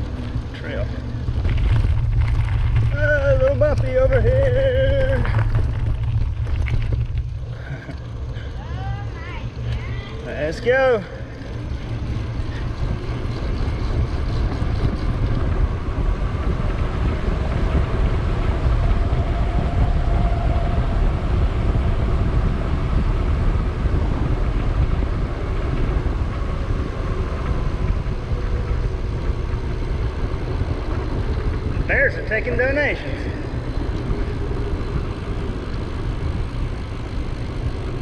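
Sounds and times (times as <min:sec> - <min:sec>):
bicycle tyre and road rumble: 0:00.0 - 0:38.0
wind buffeting microphone: 0:00.0 - 0:38.0.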